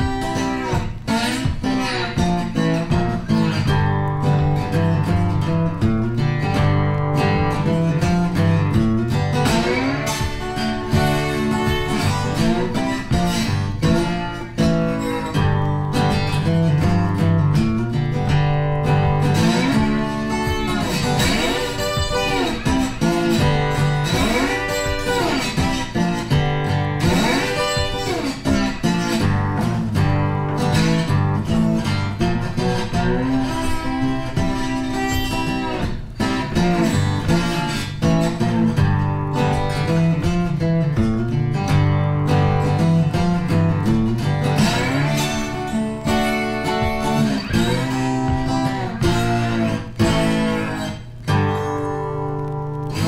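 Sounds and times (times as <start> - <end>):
guitar background music: 0.0 - 53.0.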